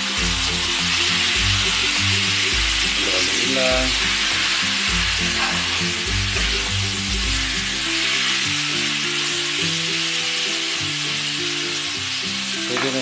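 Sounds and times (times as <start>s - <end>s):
background music with bass: 0.0s - 13.0s
meat and onion sizzling in a pan: 0.0s - 13.0s.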